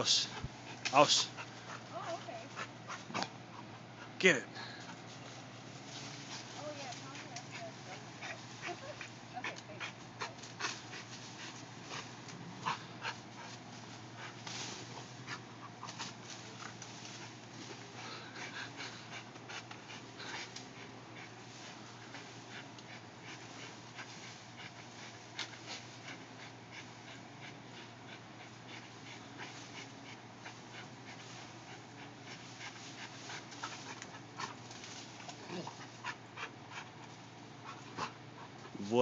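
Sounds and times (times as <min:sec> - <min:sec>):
dog panting: 0:00.0 - 0:39.0
leaves rustling: 0:04.6 - 0:39.0
twigs crackling: 0:04.7 - 0:27.4, 0:28.4 - 0:37.5.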